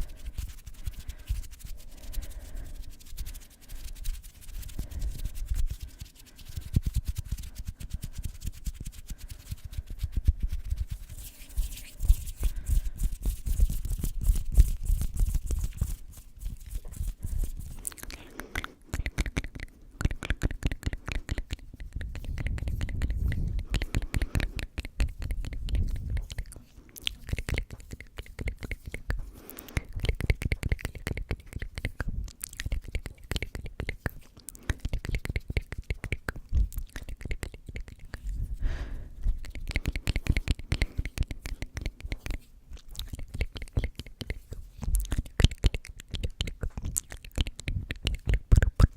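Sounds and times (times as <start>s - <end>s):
hands rubbing microphone: 0.0s - 48.9s.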